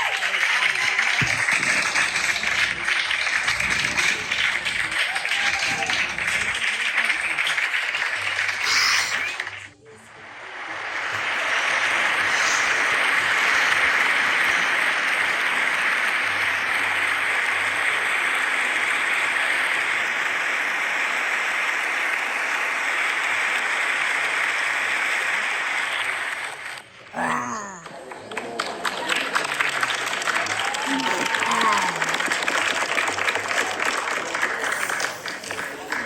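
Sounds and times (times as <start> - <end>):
crowd applauding: 0.0 - 36.0.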